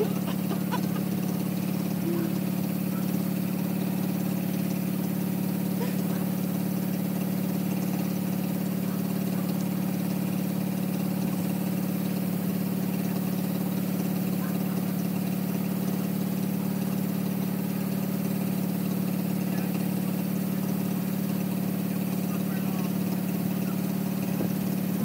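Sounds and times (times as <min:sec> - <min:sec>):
garden tractor engine running: 0:00.0 - 0:25.0.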